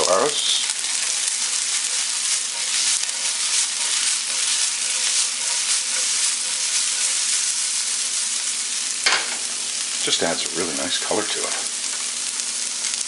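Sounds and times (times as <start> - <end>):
stir fry sizzling in a frying pan: 0.0 - 13.0.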